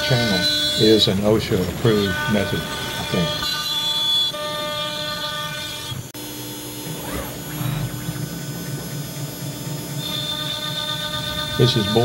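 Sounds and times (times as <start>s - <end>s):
router hum and rumble: 0.0s - 12.0s
router spindle whine: 0.0s - 12.0s.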